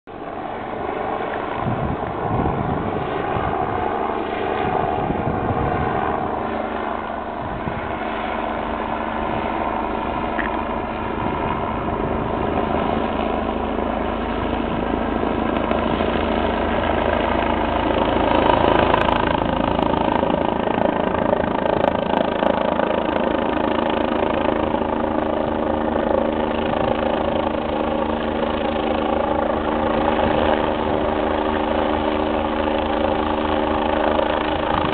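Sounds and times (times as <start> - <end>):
helicopter turbine whine and rotor: 0.1 - 34.9.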